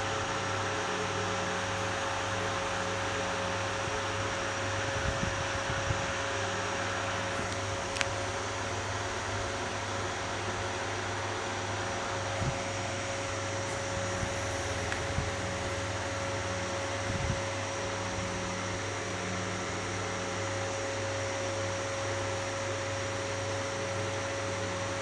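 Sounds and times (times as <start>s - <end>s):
electrical hum: 0.0s - 25.0s
fan-like noise: 0.0s - 25.0s.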